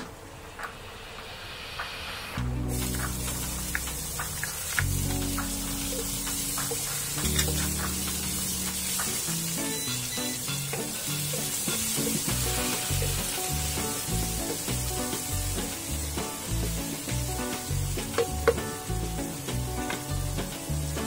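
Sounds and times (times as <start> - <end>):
food sizzling in hot oil: 1.3 - 21.0.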